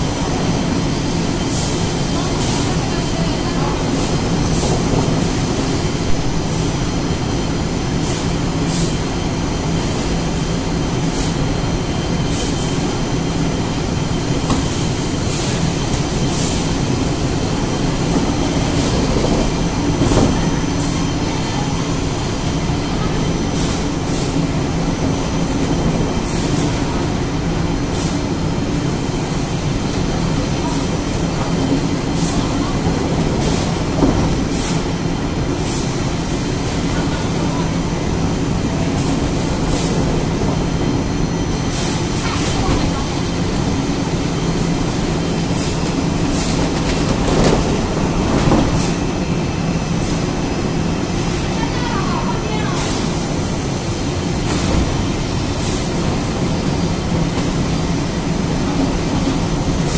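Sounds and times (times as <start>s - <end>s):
machinery drone with low hum: 0.0s - 59.9s.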